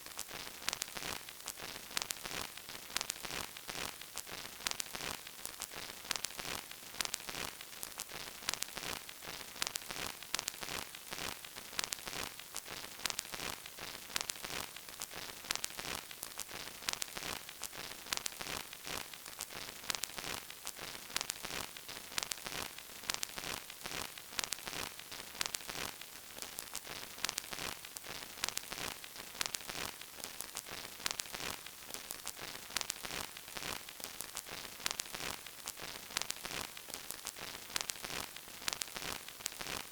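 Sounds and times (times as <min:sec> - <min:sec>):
vinyl record crackle: 0:00.0 - 0:39.9.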